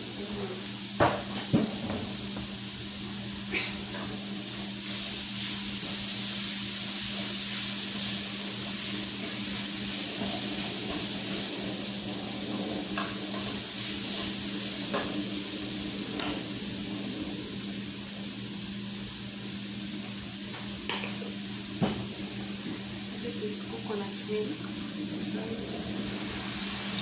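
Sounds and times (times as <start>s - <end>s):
sauce sizzling in a pan: 0.0s - 27.0s.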